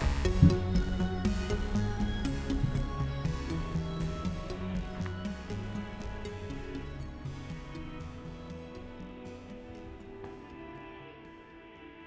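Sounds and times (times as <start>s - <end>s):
background music with bass: 0.0s - 10.5s.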